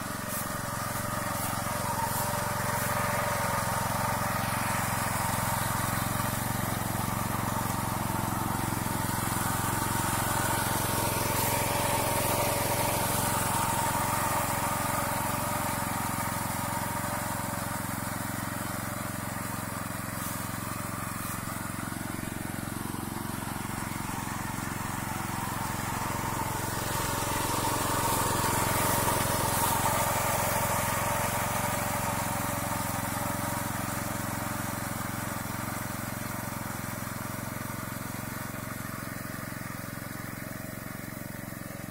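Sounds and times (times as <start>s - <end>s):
small reaper engine running: 0.0s - 41.9s.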